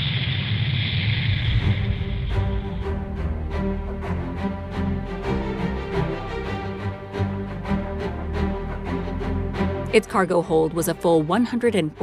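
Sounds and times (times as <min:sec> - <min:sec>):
background music with steady beat: 0:01.6 - 0:12.0.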